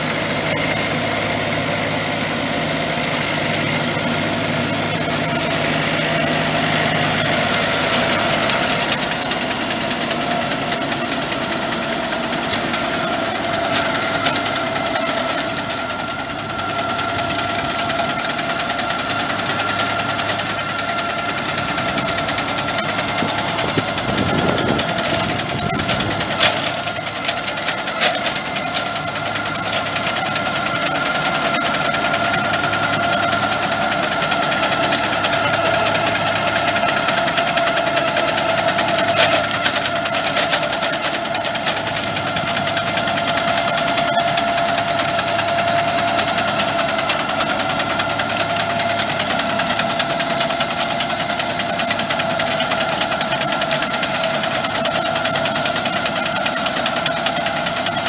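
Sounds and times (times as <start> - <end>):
tractor engine drone: 0.0 - 58.0.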